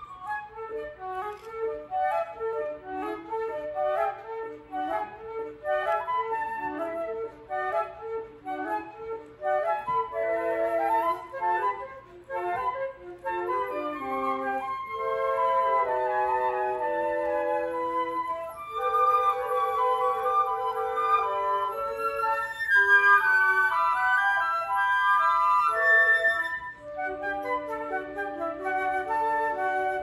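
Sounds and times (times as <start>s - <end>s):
flute quartet playing: 0.0s - 30.0s.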